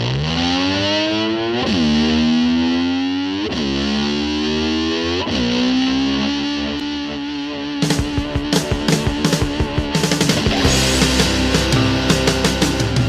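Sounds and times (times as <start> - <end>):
distorted electric slide guitar: 0.0 - 13.0.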